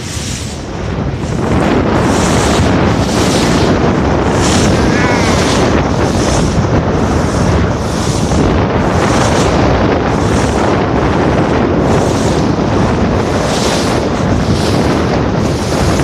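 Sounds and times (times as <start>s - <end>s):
rushing water: 0.0s - 16.0s
wind blasting over microphone: 0.0s - 16.0s.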